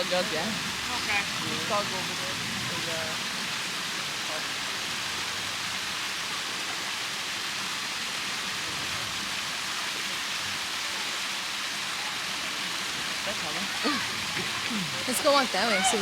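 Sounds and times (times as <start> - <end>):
water rushing from waterfall: 0.0 - 16.0.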